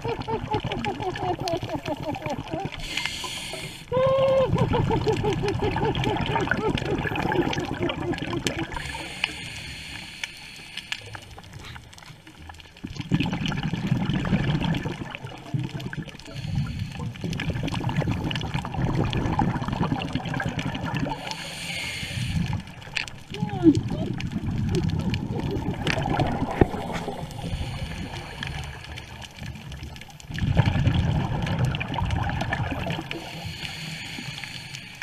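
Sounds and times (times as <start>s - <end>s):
underwater air bubbles gurgling: 0.0s - 35.0s.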